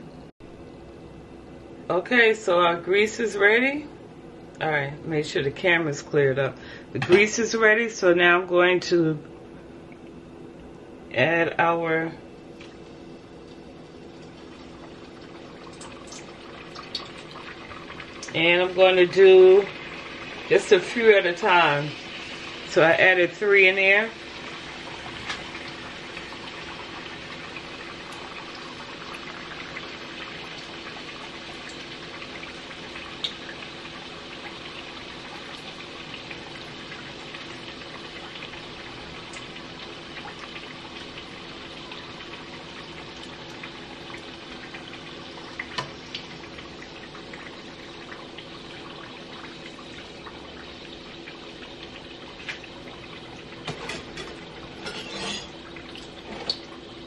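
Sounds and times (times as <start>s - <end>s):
oil sizzling and bubbling: 0.0s - 4.6s, 9.3s - 57.0s.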